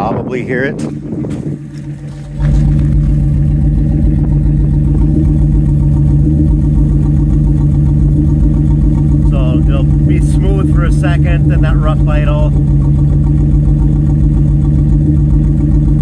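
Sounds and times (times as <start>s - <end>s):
engine exhaust idling unevenly: 0.0s - 16.0s.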